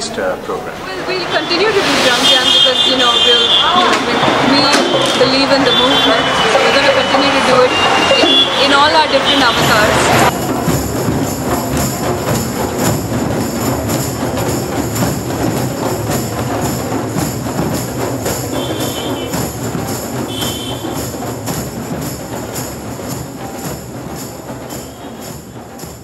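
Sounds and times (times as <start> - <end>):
hand drums playing rhythm: 0.9 - 26.0
jingling percussion: 1.0 - 26.0.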